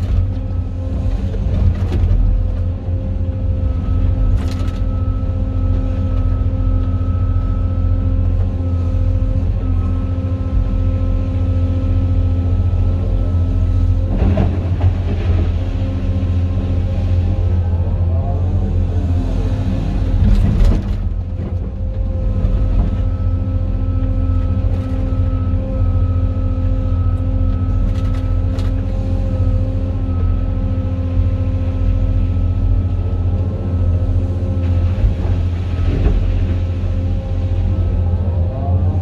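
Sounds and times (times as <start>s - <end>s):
diesel engine rumbling: 0.0s - 39.0s
engine whine: 0.0s - 39.0s.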